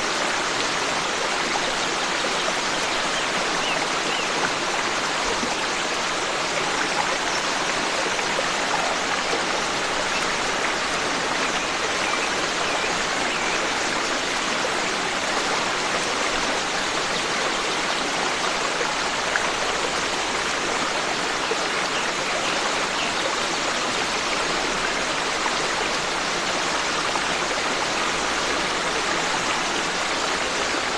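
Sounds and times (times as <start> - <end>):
forest stream flowing: 0.0 - 30.9.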